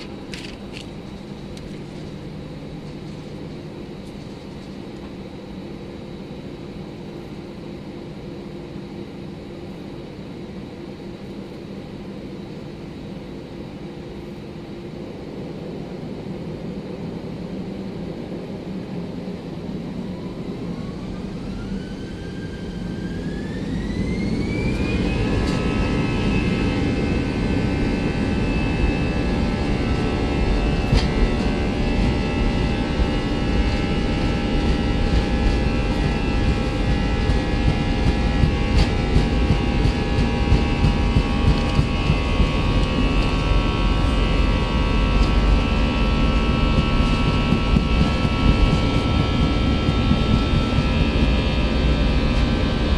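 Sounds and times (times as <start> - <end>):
jet engines spooling up: 0.0 - 52.9.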